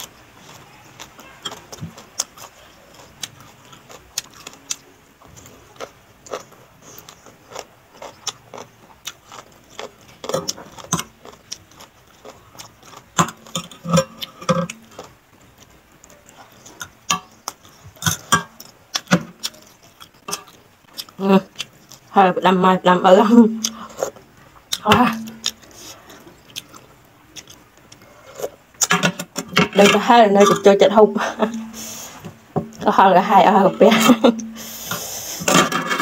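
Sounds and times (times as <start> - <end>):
chewing crunchy vegetables: 0.0 - 36.0.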